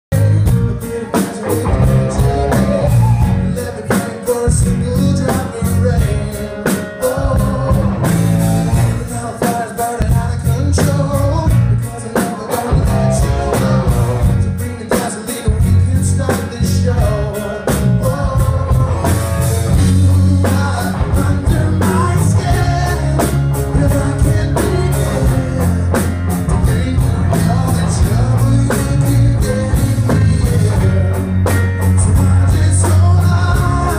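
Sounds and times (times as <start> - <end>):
man singing: 0.0 - 33.9
rock band with heavy bass: 0.1 - 33.9.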